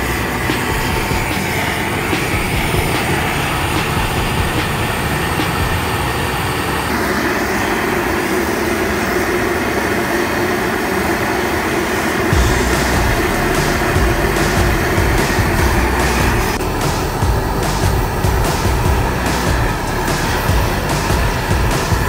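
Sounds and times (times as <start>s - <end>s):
propane torch burning: 0.0s - 22.0s.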